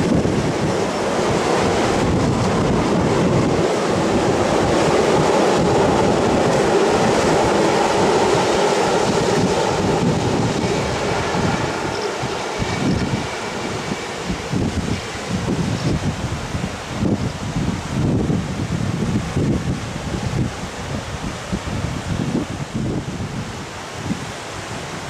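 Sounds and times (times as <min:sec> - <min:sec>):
river rushing: 0:00.0 - 0:25.0
train rumbling along track: 0:00.0 - 0:25.0.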